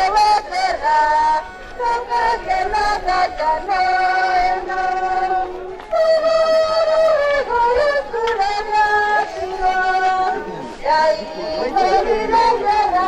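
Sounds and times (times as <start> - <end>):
person singing sliding long notes: 0.0 - 13.0.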